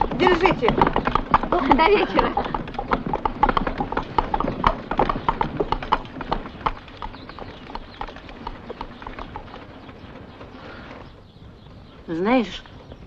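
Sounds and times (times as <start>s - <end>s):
horse hooves clip-clopping: 0.0s - 12.0s.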